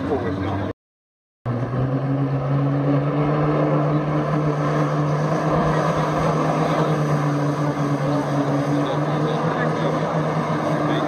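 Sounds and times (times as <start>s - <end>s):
jet ski engine running: 0.0s - 0.7s, 1.5s - 11.0s.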